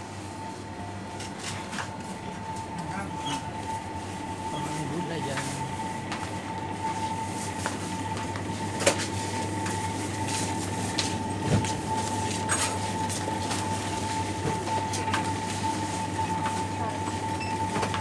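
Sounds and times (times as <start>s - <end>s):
refrigeration machine hum: 0.0s - 18.0s.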